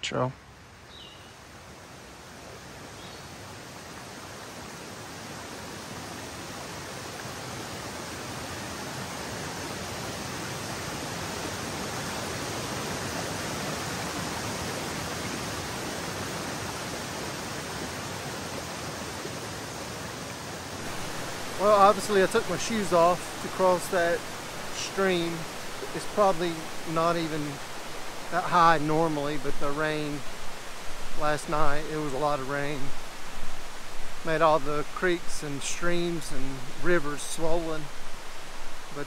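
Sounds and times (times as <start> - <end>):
mountain stream rushing: 0.5 - 39.0.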